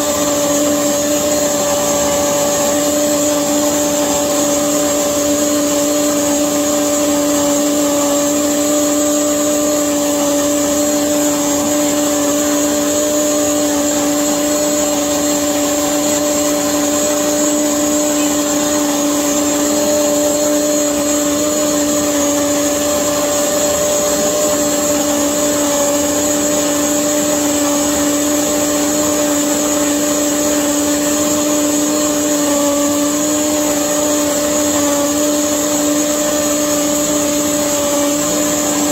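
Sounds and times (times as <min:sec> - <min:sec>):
blender running: 0:00.0 - 0:38.9.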